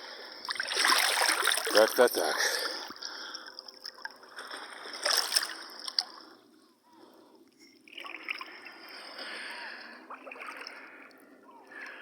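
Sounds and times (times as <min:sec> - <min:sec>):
sea water splashing and sloshing: 0:00.4 - 0:06.4, 0:07.9 - 0:11.9.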